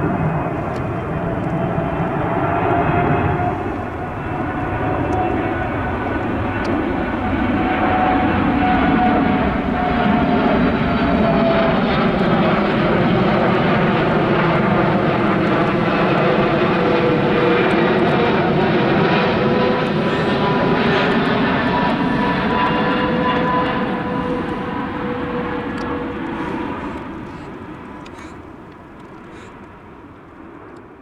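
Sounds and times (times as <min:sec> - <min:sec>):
jet engines rumbling and whining: 0:00.0 - 0:31.0.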